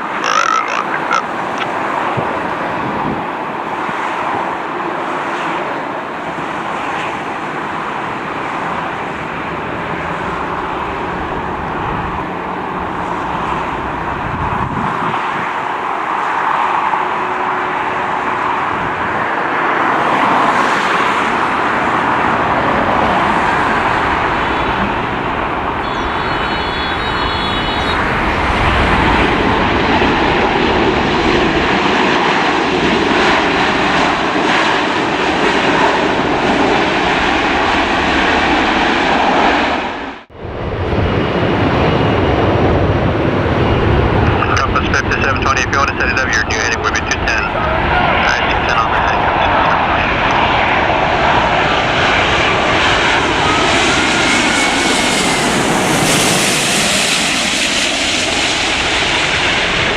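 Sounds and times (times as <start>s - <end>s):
jet airliner engines roaring: 0.0s - 59.9s.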